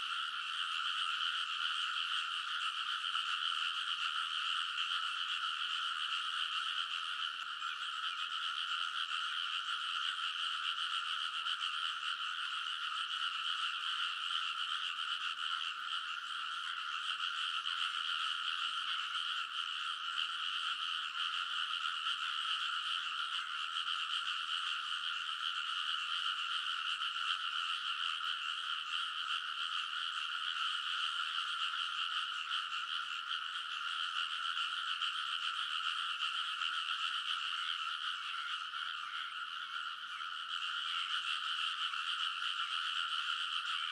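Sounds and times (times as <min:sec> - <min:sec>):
chorus of frogs: 0:00.0 - 0:43.9.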